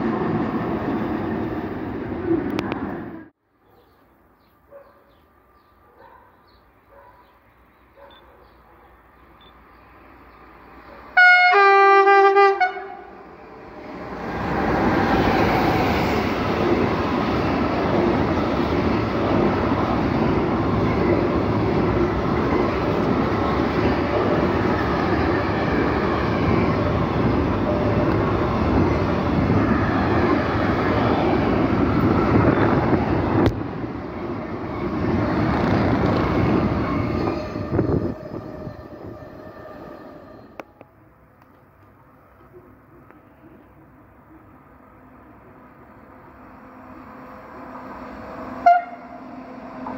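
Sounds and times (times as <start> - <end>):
freight train wheels on rails: 9.2 - 49.9.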